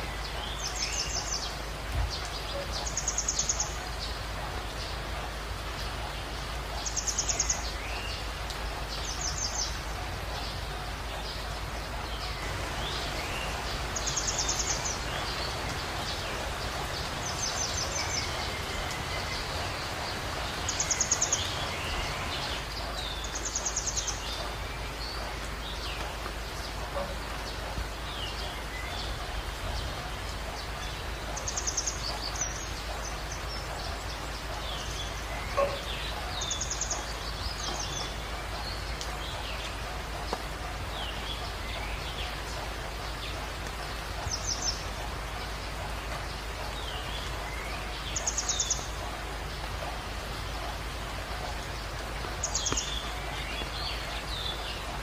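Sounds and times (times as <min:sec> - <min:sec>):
birds chirping: 0:00.0 - 0:55.0
heavy rain falling: 0:00.0 - 0:55.0.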